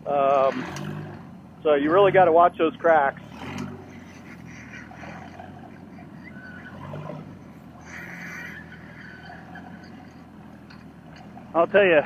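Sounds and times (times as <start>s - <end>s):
buggy engine running at low revs: 0.0s - 12.0s.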